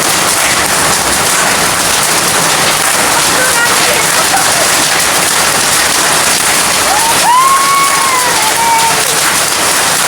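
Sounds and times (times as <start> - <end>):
heavy rain and hail: 0.0 - 10.0.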